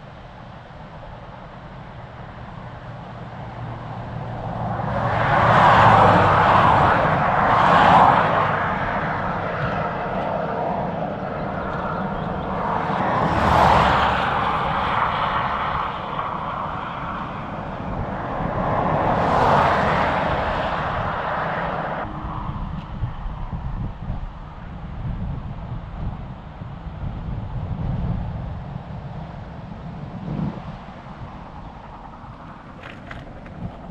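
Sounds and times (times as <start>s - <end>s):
wind rush: 0.0s - 33.9s.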